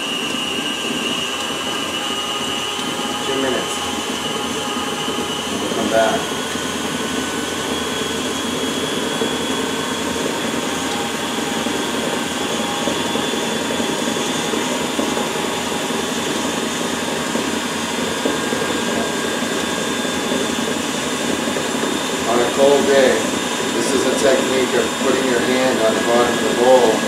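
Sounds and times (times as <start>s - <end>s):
stand mixer running: 0.0s - 27.0s.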